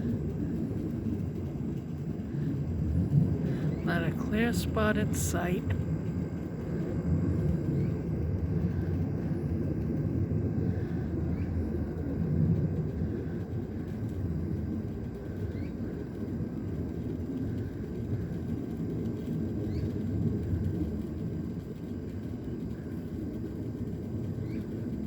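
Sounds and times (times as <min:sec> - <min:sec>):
low uneven rumble: 0:00.0 - 0:25.0.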